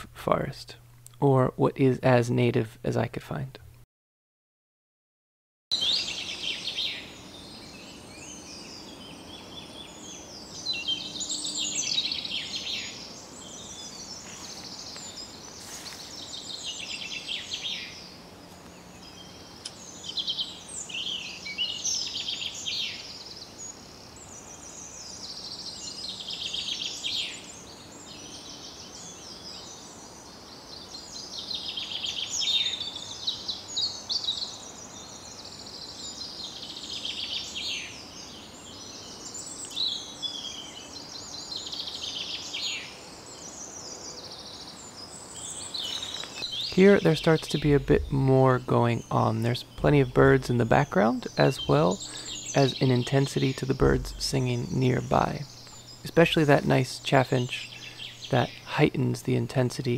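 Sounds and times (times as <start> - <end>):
background birdsong: 5.7 - 59.9
chaffinch singing: 5.7 - 59.9.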